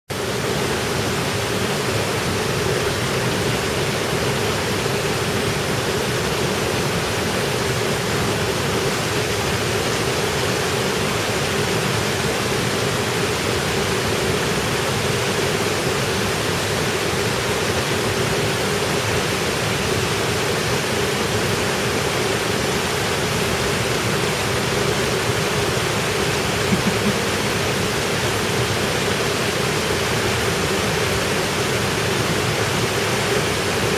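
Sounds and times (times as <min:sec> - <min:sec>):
waterfall water rushing: 0:00.1 - 0:33.9.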